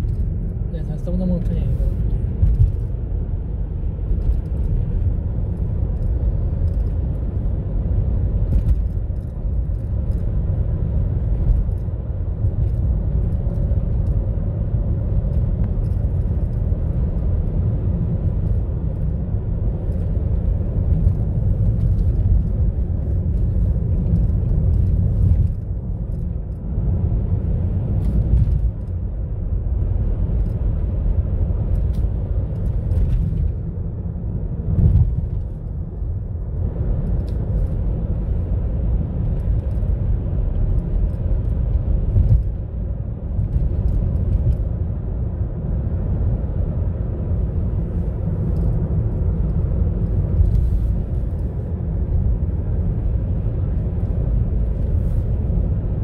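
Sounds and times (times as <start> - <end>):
car tyre and engine rumble: 0.0 - 56.0.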